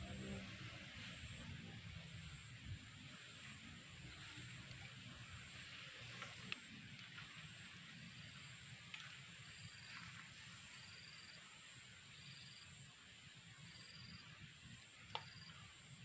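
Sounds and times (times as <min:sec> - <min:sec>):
insect chirping trill: 0:00.0 - 0:16.0
insects buzzing: 0:00.0 - 0:16.0.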